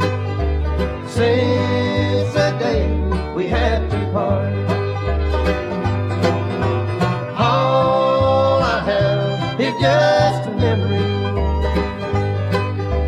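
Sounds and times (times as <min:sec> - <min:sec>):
banjo rolls: 0:00.0 - 0:13.0
guitar: 0:00.0 - 0:13.0
upright bass: 0:00.0 - 0:13.0.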